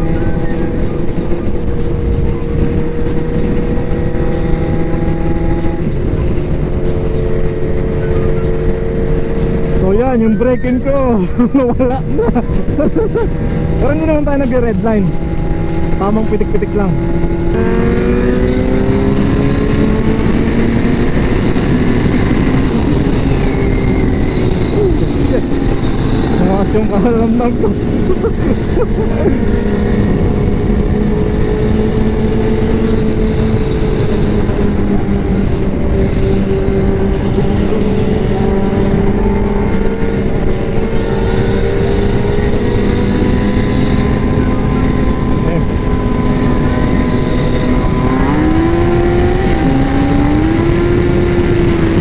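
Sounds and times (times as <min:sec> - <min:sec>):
motorcycle engine accelerating: 0:00.0 - 0:52.0
wind rushing over microphone: 0:00.0 - 0:52.0.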